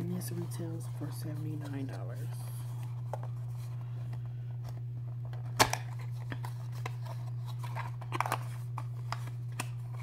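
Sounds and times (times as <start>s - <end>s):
steady low hum: 0.0s - 10.0s
packaging being handled: 0.1s - 10.0s.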